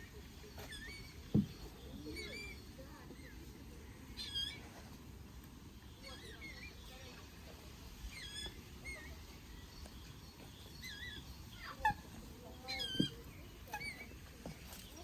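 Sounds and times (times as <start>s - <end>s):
birds singing and calling: 0.0s - 15.0s.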